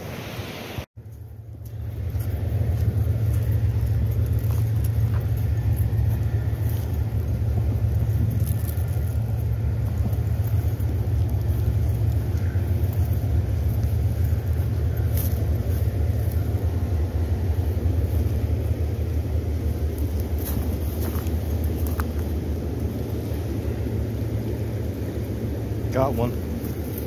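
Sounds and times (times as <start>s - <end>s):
wind buffeting the microphone: 1.7s - 27.0s.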